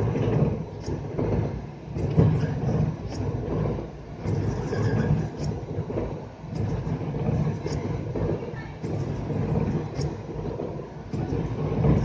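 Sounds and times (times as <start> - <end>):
train cab rumble: 0.0 - 12.0.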